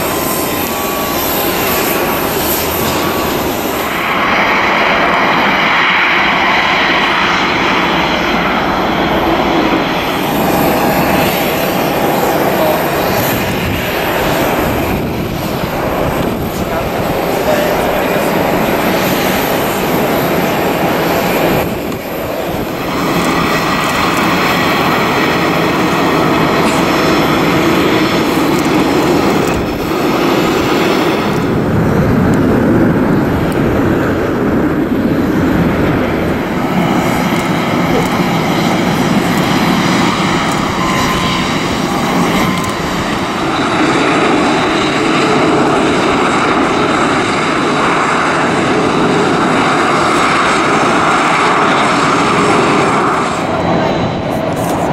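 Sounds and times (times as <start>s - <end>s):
jet engines running: 0.0s - 54.9s.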